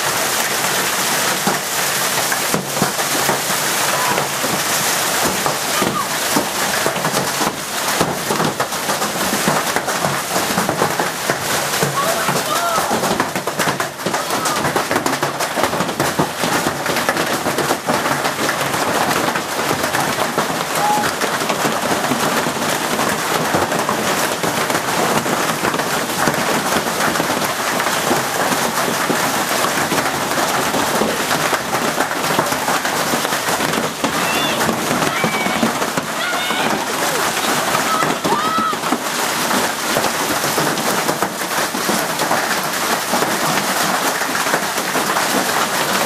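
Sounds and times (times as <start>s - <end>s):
hail and heavy rain falling: 0.0s - 46.0s.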